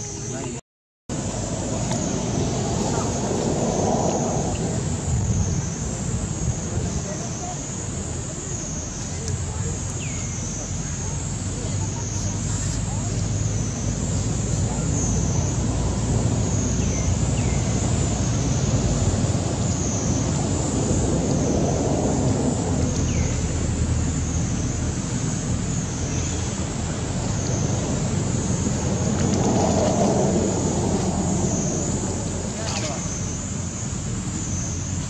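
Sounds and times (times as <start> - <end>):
constant high hiss: 0.0 - 35.0
low rumble: 1.1 - 34.2.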